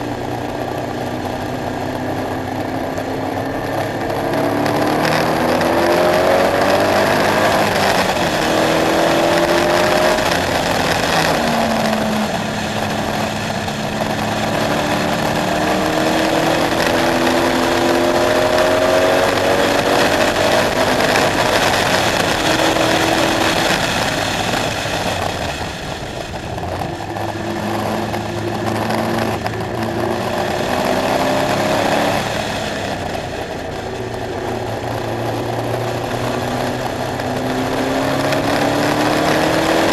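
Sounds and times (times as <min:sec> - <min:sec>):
car engine revving at speed: 0:00.0 - 0:39.9.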